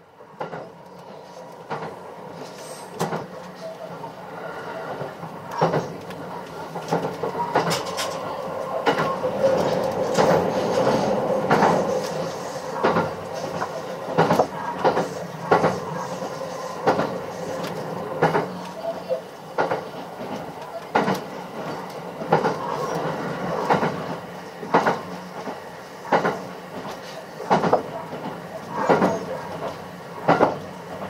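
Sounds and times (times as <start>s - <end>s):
train rumble and hiss: 0.0s - 31.0s
train wheels clacking on rails: 0.3s - 31.0s.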